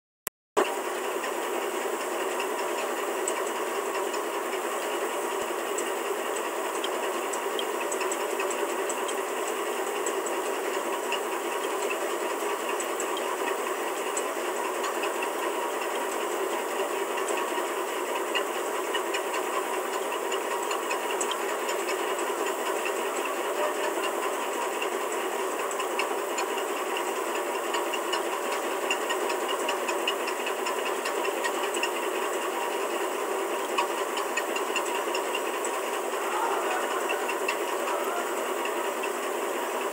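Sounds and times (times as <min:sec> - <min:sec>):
steady machine noise: 0:00.6 - 0:39.9.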